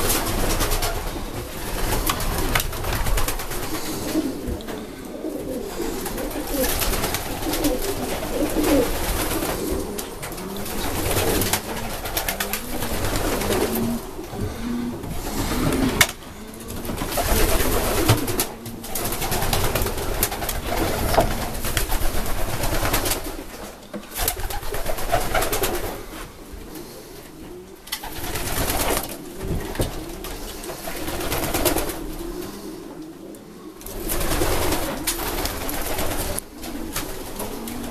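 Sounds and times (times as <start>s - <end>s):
pigeons cooing: 0.0s - 37.9s.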